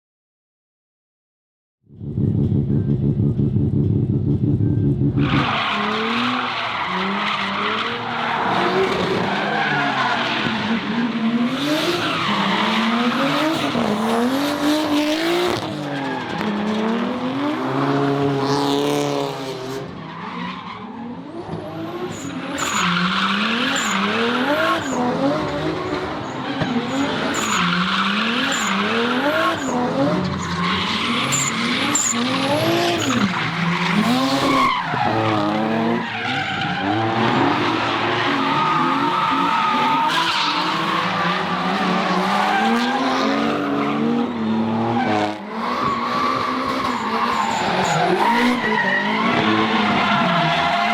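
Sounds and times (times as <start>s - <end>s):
car engine revving: 1.9s - 19.8s, 21.6s - 50.9s.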